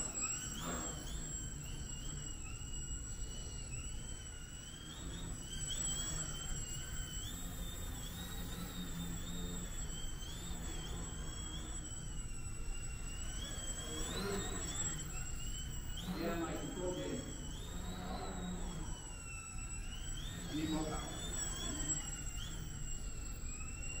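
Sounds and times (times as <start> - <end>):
model airplane motor whine: 0.0 - 24.0.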